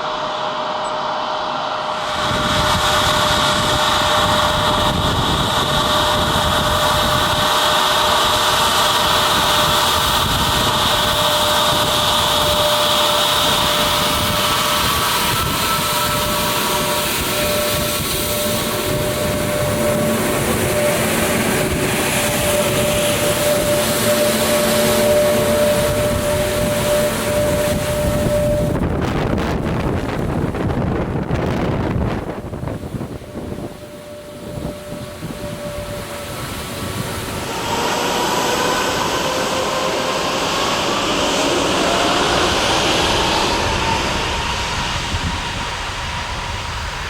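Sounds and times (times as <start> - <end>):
jet engine rushing roar: 0.0 - 47.0
jet engine whine: 0.0 - 47.0.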